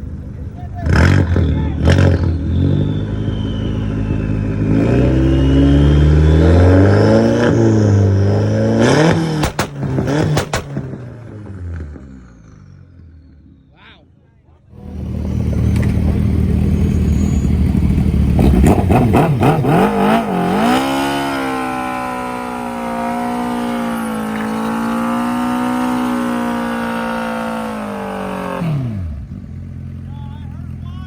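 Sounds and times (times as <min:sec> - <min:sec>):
car engine revving: 0:00.0 - 0:13.3, 0:14.7 - 0:31.0.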